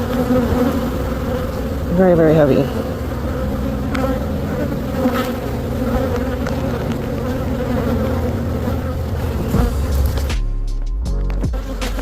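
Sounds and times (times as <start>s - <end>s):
honeybees buzzing: 0.0s - 10.3s, 11.1s - 12.0s.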